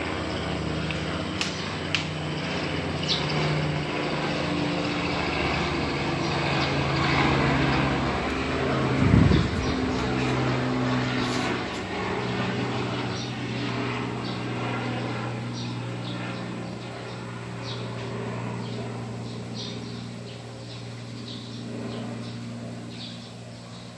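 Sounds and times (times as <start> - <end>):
helicopter drone: 0.0 - 23.9
small birds chirping: 2.8 - 4.2, 5.0 - 11.8, 12.7 - 23.9.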